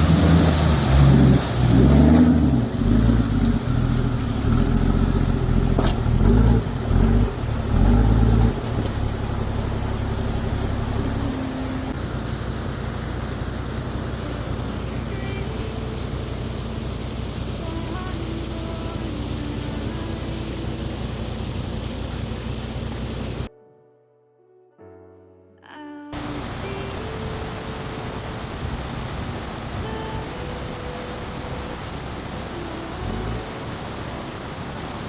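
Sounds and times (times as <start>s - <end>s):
diesel engine revving: 0.0s - 23.5s, 26.2s - 35.0s.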